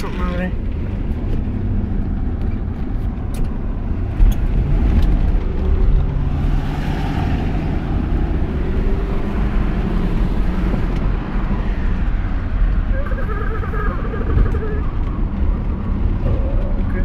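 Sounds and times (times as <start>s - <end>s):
car engine rumbling: 0.0s - 17.0s
road and tyre noise: 0.0s - 17.0s.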